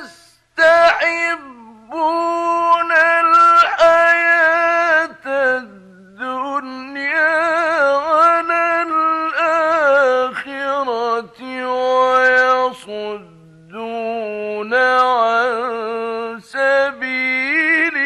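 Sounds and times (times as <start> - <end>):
man chanting recitation: 0.0 - 18.0.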